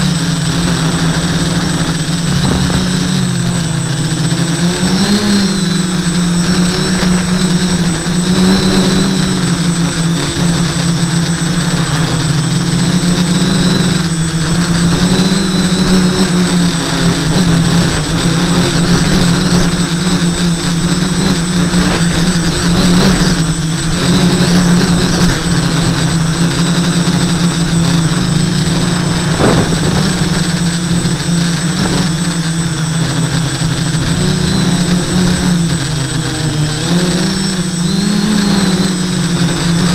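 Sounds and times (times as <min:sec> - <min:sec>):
drone motors whirring: 0:00.0 - 0:39.9
wind noise: 0:00.0 - 0:39.9.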